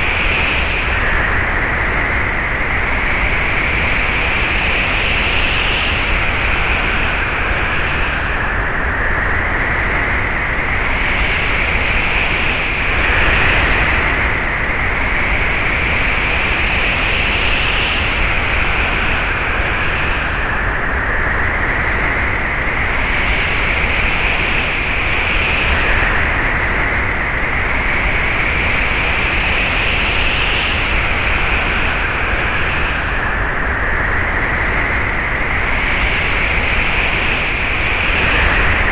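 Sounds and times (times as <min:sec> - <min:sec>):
wind whistling: 0:00.0 - 0:38.9.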